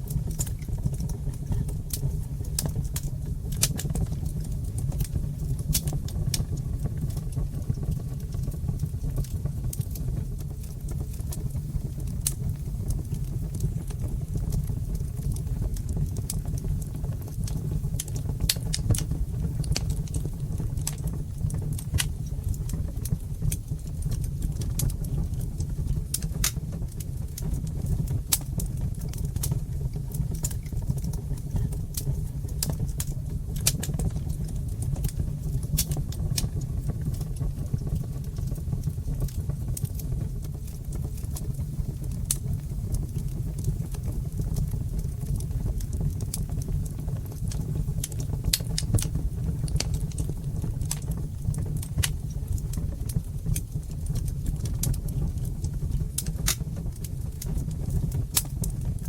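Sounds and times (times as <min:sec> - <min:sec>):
low noise of flames: 0:00.0 - 0:59.0
wood fire crackling and popping: 0:00.0 - 0:59.0.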